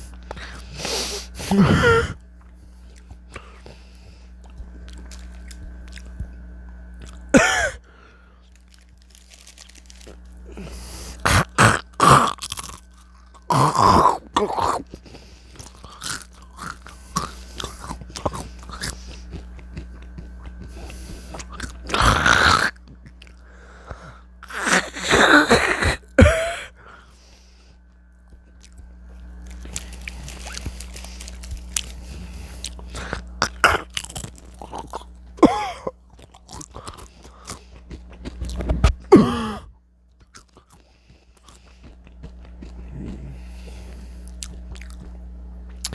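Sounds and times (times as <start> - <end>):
steady low hum: 0.0 - 45.9
potato chips crunching: 2.4 - 27.1, 27.8 - 45.9.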